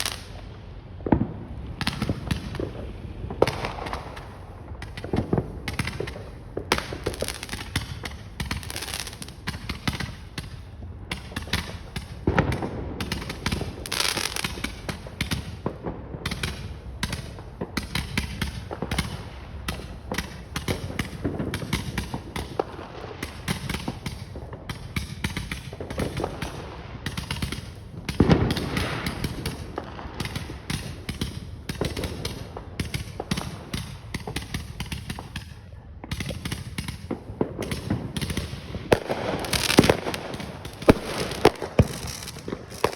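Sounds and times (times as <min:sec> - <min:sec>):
fireworks bangs and crackles: 0:00.0 - 0:42.9
loud firework booms: 0:01.0 - 0:35.3, 0:36.0 - 0:42.9.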